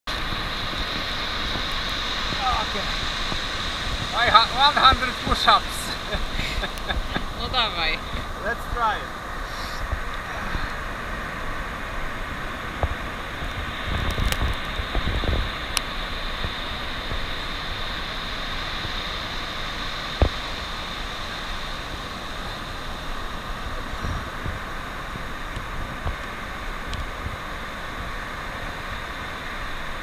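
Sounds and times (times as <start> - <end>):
ocean surf hissing: 0.1 - 30.0
wind buffeting microphone: 0.1 - 30.0.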